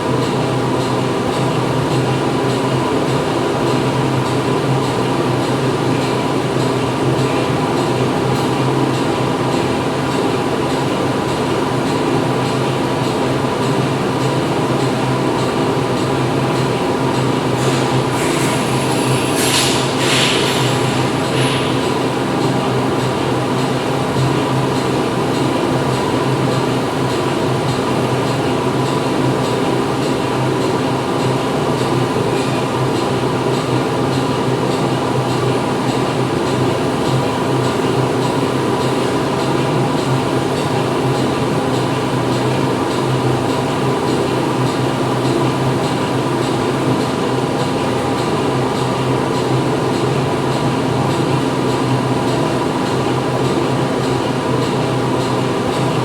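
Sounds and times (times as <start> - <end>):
factory machinery humming: 0.0 - 56.0.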